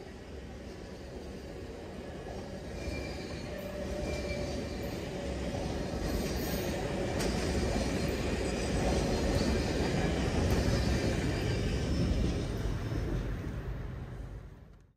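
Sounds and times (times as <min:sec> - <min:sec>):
train wheels rumbling: 0:00.0 - 0:14.8.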